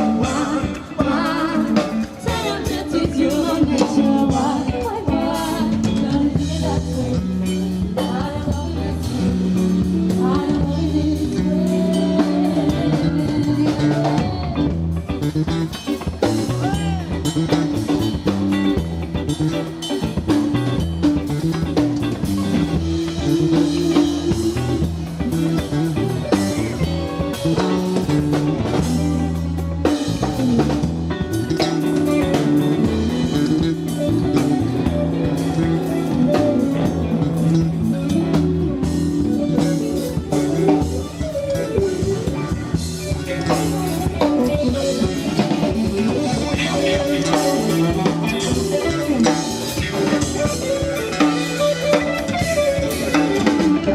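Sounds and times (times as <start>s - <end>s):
bass guitar: 0.0s - 53.9s
drum kit beat: 0.0s - 53.9s
electric guitar: 0.0s - 53.9s
instrumental funk band music: 0.0s - 53.9s.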